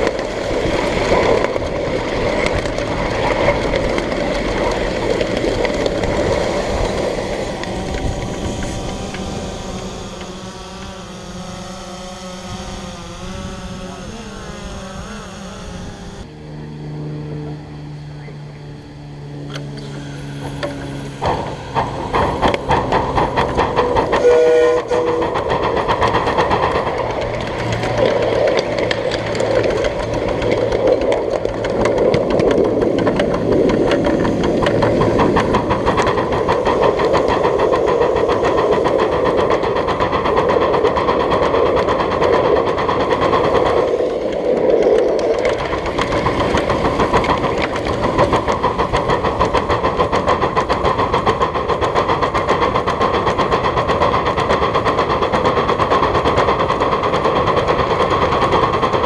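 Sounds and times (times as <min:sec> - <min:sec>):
steam locomotive chuffing: 0:00.0 - 0:15.9, 0:18.5 - 0:59.0.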